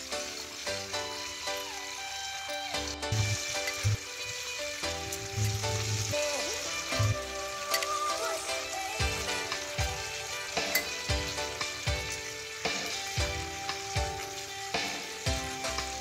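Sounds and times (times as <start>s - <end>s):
background music with beat: 0.0s - 16.0s
meat sizzling in oil: 0.0s - 16.0s
tongs stirring in pan: 0.1s - 16.0s.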